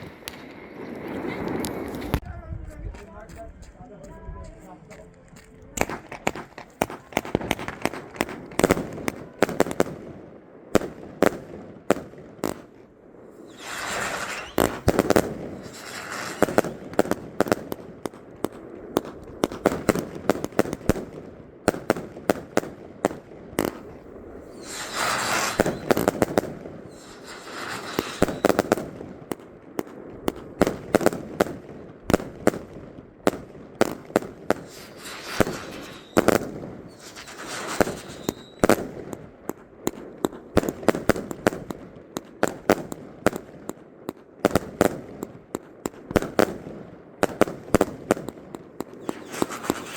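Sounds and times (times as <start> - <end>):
fireworks sharp bangs: 0.0 - 2.2, 5.8 - 49.9
fireworks hissing and crackling: 0.0 - 3.4, 4.0 - 49.9.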